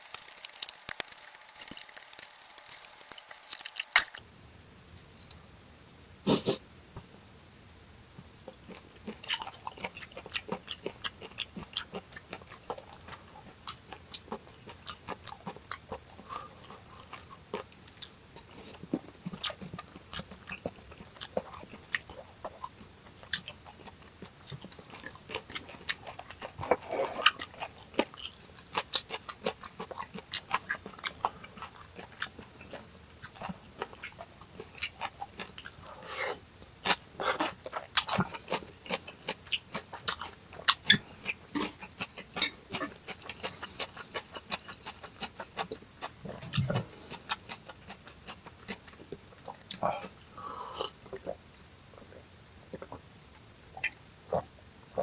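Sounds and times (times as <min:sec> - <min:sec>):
person chewing food: 0:00.0 - 0:04.2, 0:08.5 - 0:51.4, 0:52.0 - 0:55.0.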